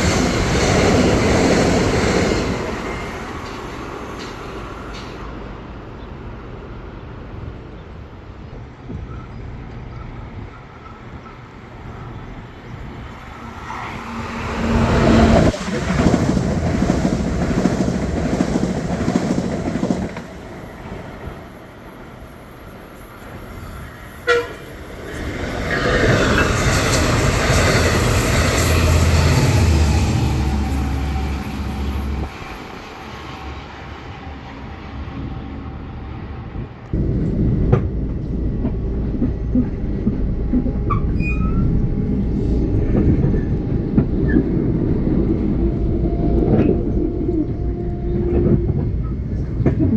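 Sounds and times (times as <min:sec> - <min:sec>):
train cars rumbling and rattling: 0:00.0 - 0:49.9.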